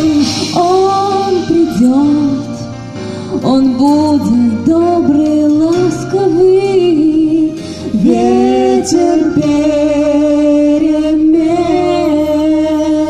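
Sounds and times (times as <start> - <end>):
instrumental backing track: 0.0 - 13.0
woman and man singing duet: 0.0 - 13.0.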